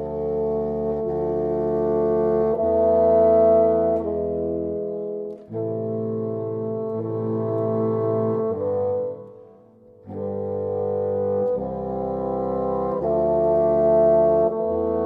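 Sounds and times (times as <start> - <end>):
bassoons playing sustained chords: 0.0 - 15.0.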